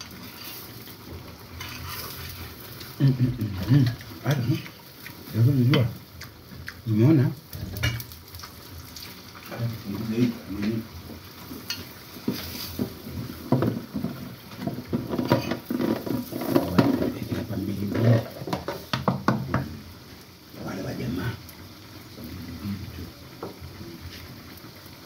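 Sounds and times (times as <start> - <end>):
food frying in pans: 0.0 - 25.0.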